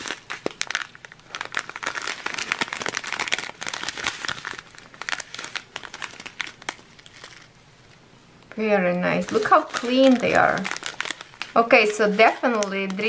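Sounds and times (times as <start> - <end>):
plastic bags crinkling: 0.0 - 8.0, 8.6 - 13.0.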